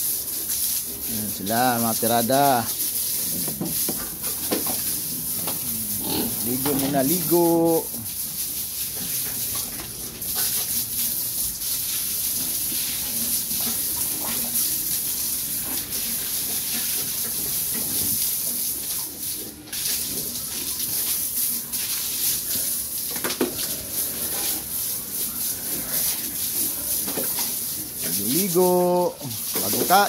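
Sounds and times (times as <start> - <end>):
water jet hissing: 0.0 - 30.0.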